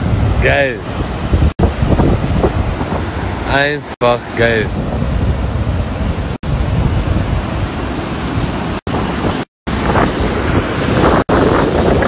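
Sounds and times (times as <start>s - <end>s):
ocean surf washing up: 0.0s - 12.0s
wind buffeting microphone: 0.0s - 12.0s.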